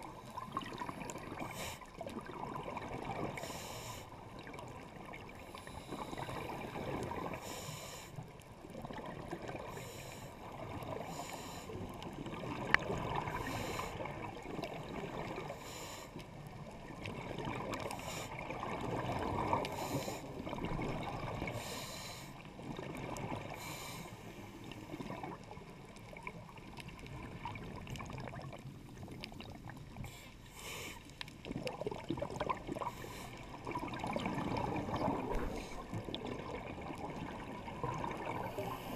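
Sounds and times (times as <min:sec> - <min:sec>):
exhaled bubbles hissing: 0:00.0 - 0:25.5, 0:29.3 - 0:38.9
muffled underwater rumble: 0:00.0 - 0:38.9.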